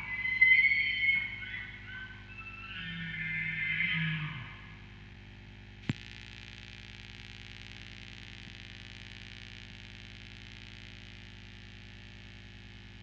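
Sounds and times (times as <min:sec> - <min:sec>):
low electronic buzzing hum: 0:00.0 - 0:13.0
static hiss: 0:00.0 - 0:13.0.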